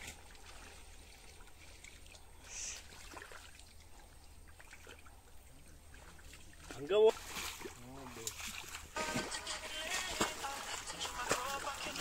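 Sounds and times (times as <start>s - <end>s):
pond water trickling: 0.0s - 12.0s
water splash: 0.0s - 12.0s.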